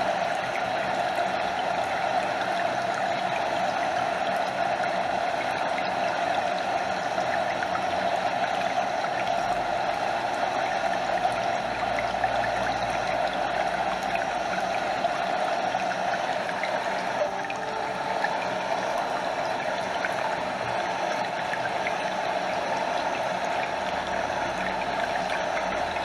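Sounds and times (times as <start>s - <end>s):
small waterfall spilling: 0.0s - 26.0s
stream water flowing: 0.0s - 26.0s.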